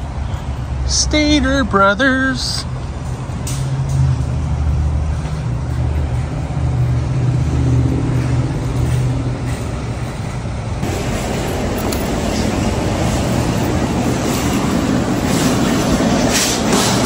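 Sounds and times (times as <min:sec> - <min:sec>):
loud rushing noise: 0:02.7 - 0:17.0.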